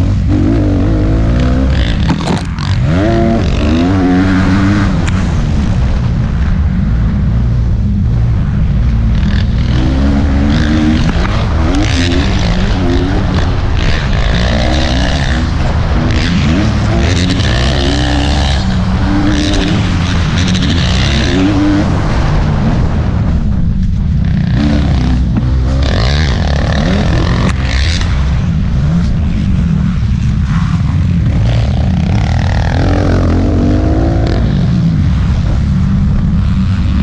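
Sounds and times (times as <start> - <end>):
motocross bike engine revving: 0.0 - 6.0, 8.9 - 23.2, 24.2 - 37.0.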